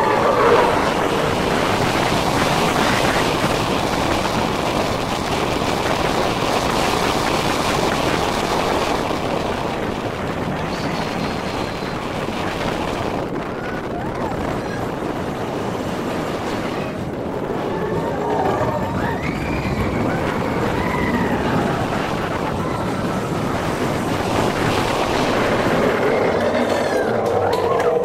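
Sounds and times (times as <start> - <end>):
roller coaster wheels on track: 0.0 - 28.0
wind on microphone: 0.0 - 28.0.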